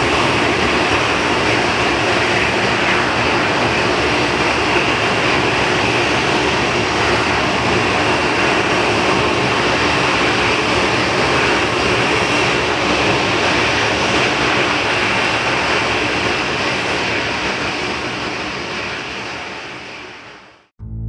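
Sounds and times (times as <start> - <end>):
jet engines roaring at takeoff: 0.0 - 20.7.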